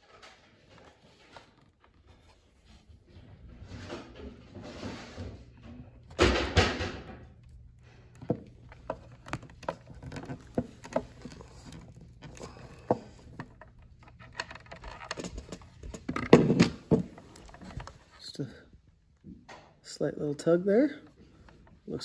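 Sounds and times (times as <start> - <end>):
wire handling noise: 0.0 - 18.3.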